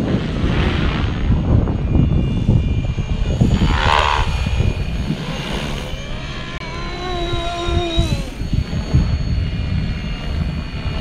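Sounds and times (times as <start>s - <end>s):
low rumble: 0.0s - 11.0s
rc helicopter rotor whine: 0.0s - 11.0s.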